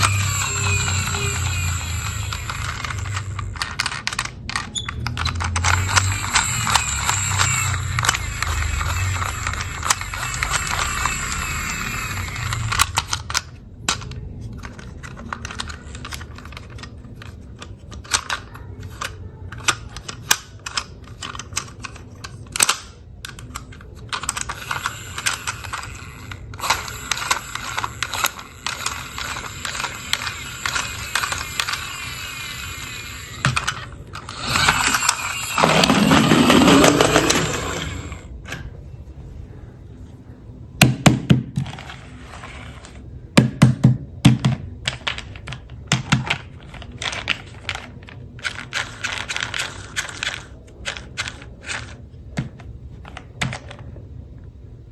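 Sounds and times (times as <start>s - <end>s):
plastic toy cars clicking: 0.0s - 38.7s, 40.8s - 54.5s.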